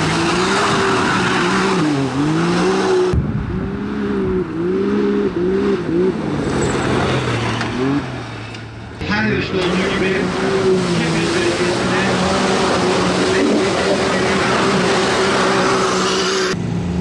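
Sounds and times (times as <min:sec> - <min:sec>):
off-road vehicle engines revving: 0:00.0 - 0:17.0.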